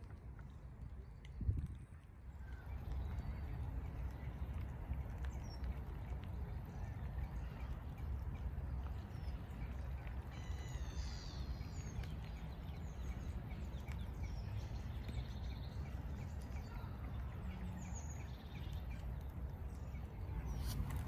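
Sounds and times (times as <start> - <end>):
songbirds chirping: 0.2 - 21.0.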